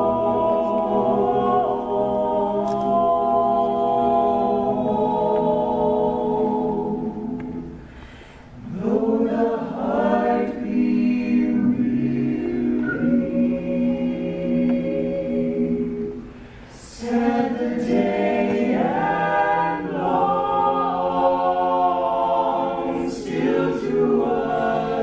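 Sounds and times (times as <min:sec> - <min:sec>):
a cappella choir singing harmony: 0:00.0 - 0:25.0.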